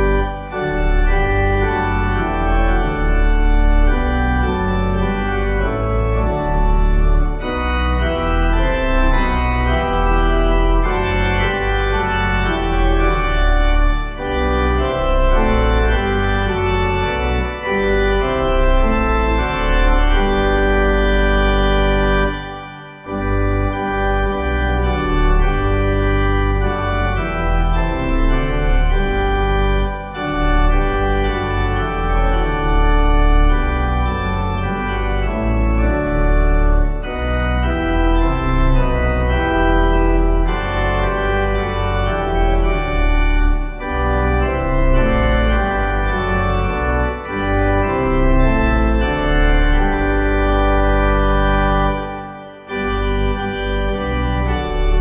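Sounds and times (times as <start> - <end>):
organ playing hymn chords: 0.0 - 55.0.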